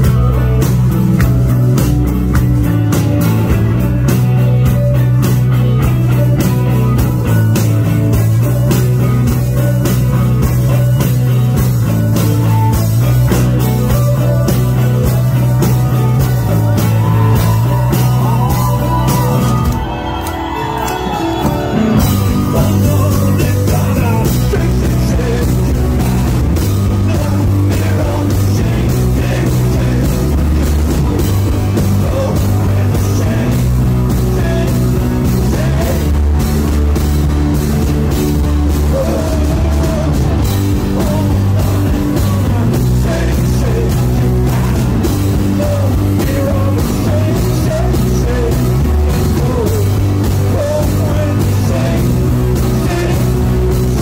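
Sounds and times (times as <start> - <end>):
bass guitar: 0.0 - 54.0
drums keeping steady beat: 0.0 - 54.0
electric guitar: 0.0 - 54.0
man singing: 3.7 - 19.7, 21.2 - 36.8, 38.0 - 54.0.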